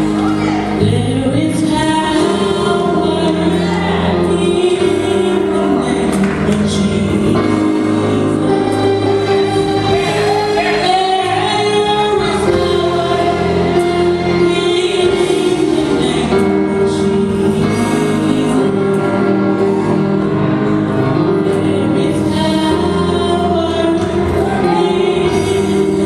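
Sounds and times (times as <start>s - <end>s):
woman singing gospel: 0.0s - 20.2s, 21.3s - 26.0s
musical accompaniment: 0.0s - 26.0s.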